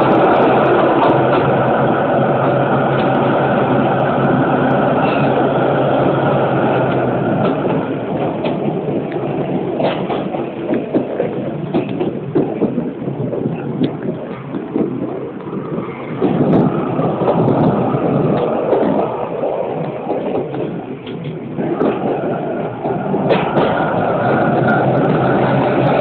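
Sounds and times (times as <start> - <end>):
train wheels on rails: 0.0 - 26.0
wind buffeting microphone: 0.0 - 26.0.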